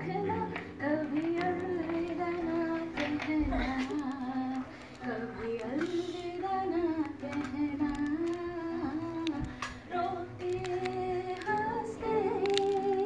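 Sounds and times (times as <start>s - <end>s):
acoustic guitar: 0.0s - 13.0s
woman singing slow song: 0.0s - 13.0s.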